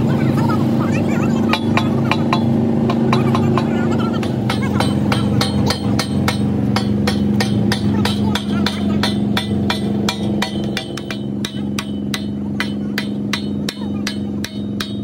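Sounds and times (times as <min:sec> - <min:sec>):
machinery humming: 0:00.0 - 0:15.0
rapid hammer strikes: 0:01.4 - 0:15.0.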